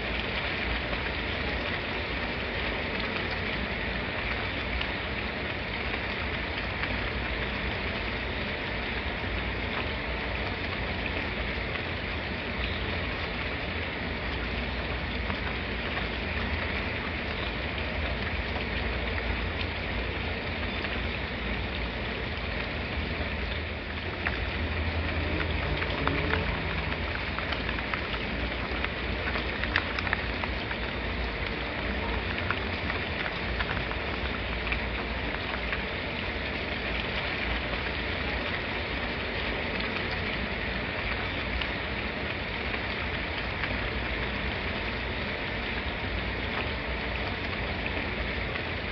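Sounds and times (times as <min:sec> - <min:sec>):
raindrop ticks: 0:00.0 - 0:48.9
steady rain falling: 0:00.0 - 0:48.9.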